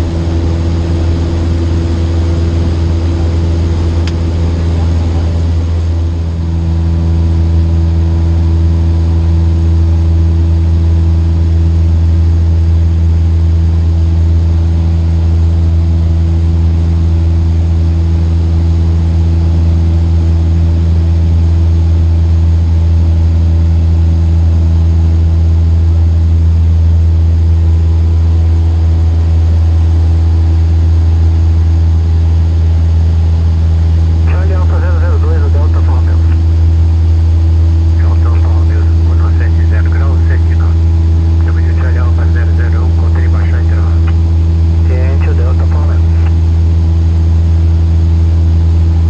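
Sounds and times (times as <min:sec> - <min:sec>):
propeller plane engine droning: 0:00.0 - 0:49.0.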